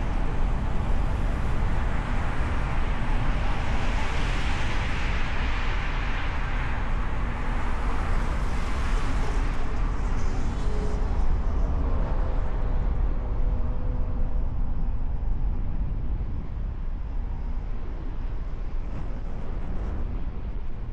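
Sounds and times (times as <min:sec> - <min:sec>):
road rumble with tyre hiss: 0:00.0 - 0:20.9.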